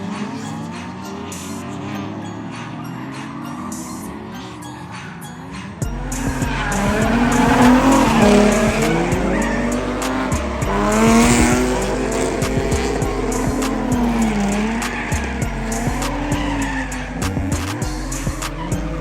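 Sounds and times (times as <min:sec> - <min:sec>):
background music with steady beat: 0:00.0 - 0:19.0
tires squealing: 0:00.0 - 0:19.0.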